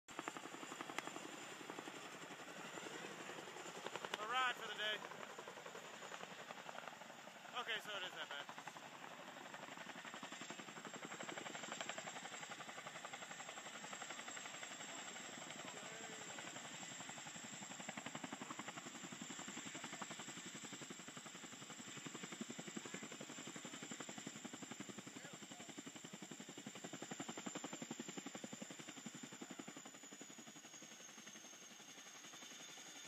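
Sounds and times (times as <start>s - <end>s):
helicopter rotor beating: 0.1s - 33.0s.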